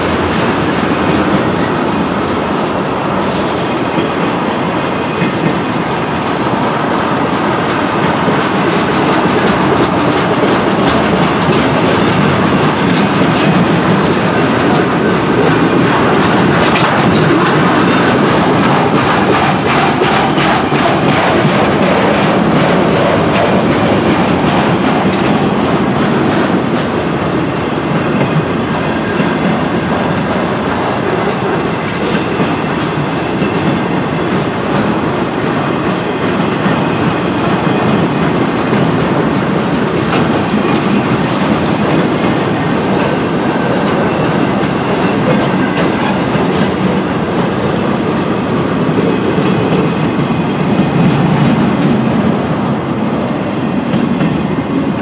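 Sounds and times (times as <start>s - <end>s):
freight train rolling past: 0.0s - 55.0s
wheels clacking over rail joints: 0.0s - 55.0s.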